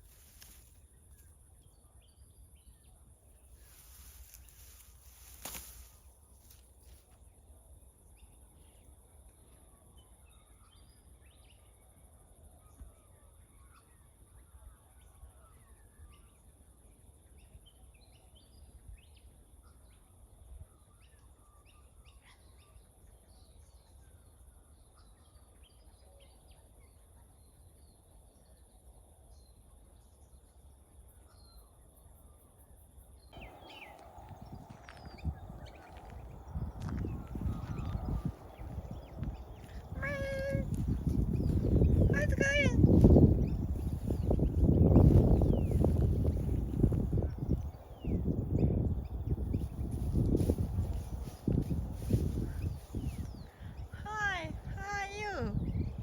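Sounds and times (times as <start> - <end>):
faint bird chirps: 8.2 - 56.0.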